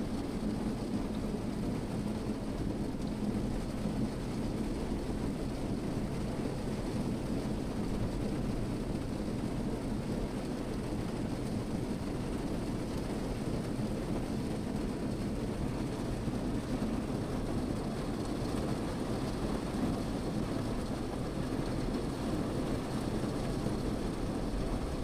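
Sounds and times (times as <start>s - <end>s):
rain drumming on car roof: 0.1s - 25.0s.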